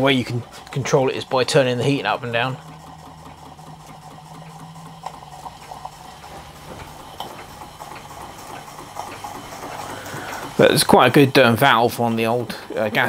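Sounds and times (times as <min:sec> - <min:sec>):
steady low hum: 0:00.0 - 0:13.0
steam engine exhaust ticking: 0:00.0 - 0:13.0.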